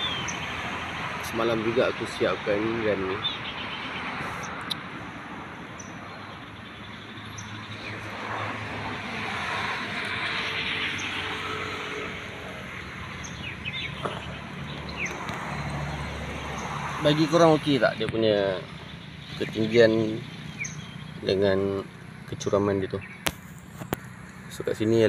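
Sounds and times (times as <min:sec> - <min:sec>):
road vehicle passing: 0:00.0 - 0:25.0.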